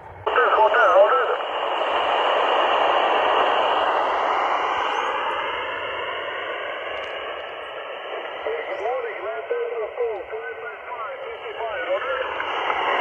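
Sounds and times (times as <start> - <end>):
muffled radio hiss: 0.2 - 13.0
faint whistles gliding down: 1.6 - 13.0.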